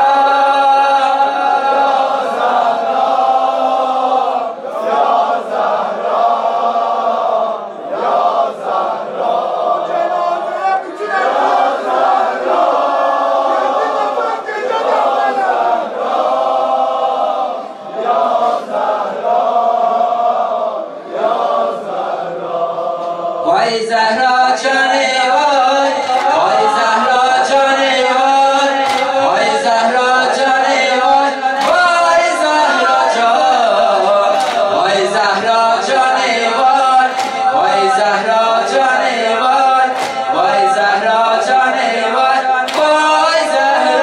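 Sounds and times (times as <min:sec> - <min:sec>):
many voices chanting a lament: 0:00.0 - 0:44.0.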